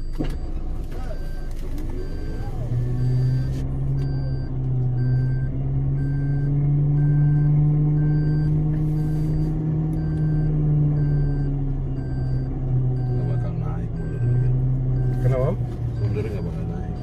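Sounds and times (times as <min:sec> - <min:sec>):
off-road vehicle engine revving: 0:00.0 - 0:17.0
short electronic beeps: 0:00.0 - 0:17.0.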